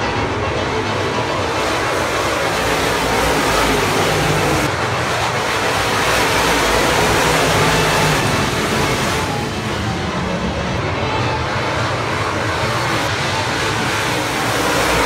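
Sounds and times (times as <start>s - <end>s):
stock car engines racing: 0.0s - 15.0s.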